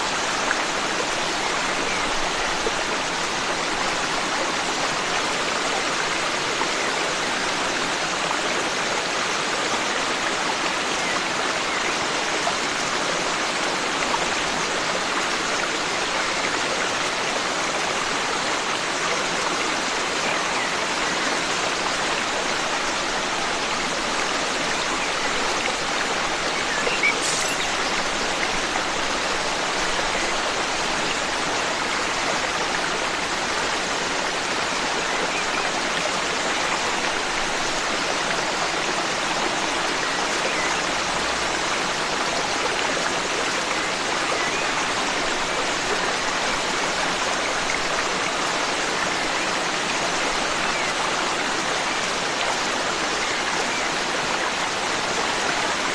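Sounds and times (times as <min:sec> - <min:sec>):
forest stream flowing: 0:00.0 - 0:55.9.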